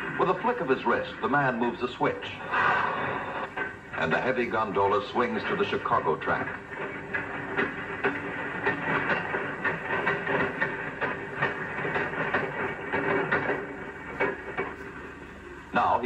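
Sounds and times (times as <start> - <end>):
steady hiss: 0.0 - 16.0
steel wheels clattering over rail joints: 0.0 - 16.0.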